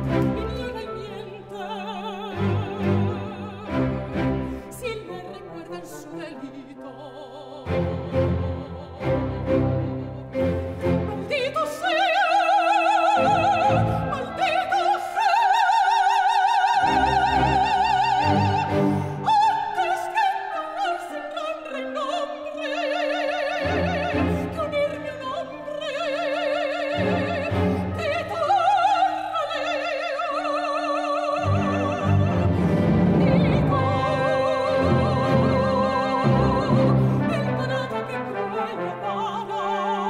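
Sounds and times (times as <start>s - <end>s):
operatic soprano singing: 0.0s - 40.0s
symphony orchestra with strings: 0.0s - 40.0s.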